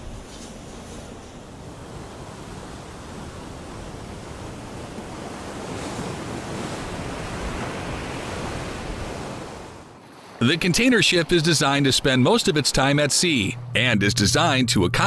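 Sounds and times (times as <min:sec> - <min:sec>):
sea waves rushing: 0:00.0 - 0:15.0
wind: 0:00.0 - 0:15.0.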